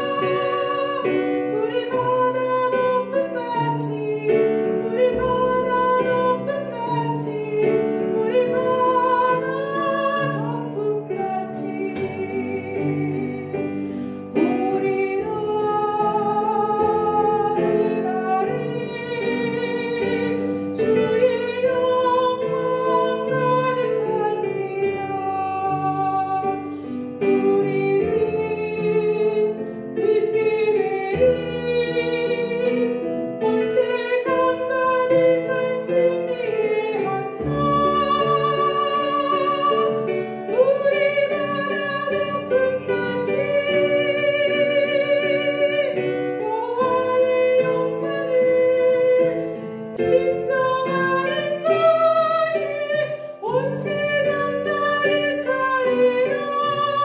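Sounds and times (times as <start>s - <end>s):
instrumental accompaniment: 0.0s - 57.0s
soprano singing a hymn: 0.0s - 57.0s.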